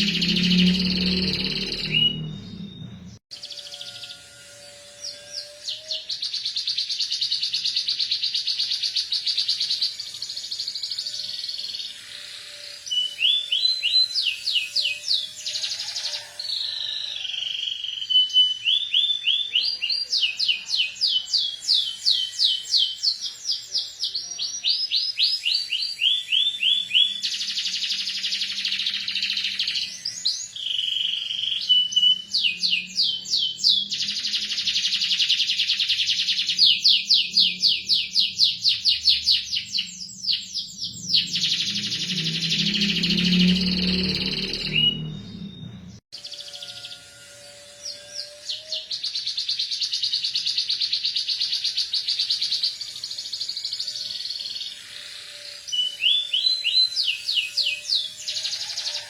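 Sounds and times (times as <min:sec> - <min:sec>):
canary singing fast trills: 0:00.0 - 0:59.0.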